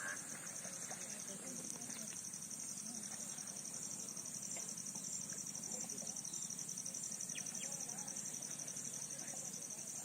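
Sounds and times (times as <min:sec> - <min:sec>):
faint bird calls: 0:00.0 - 0:10.0
insects trilling: 0:00.0 - 0:10.0.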